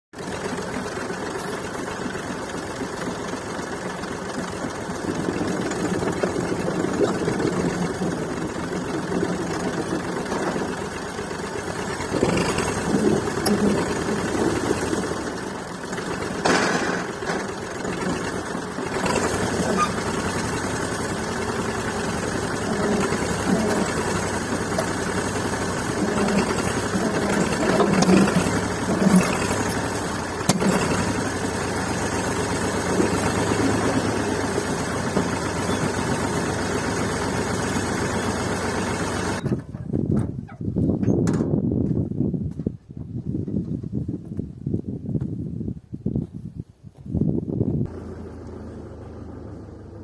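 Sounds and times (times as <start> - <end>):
tractor engine running: 0.1 - 45.3, 47.6 - 50.0.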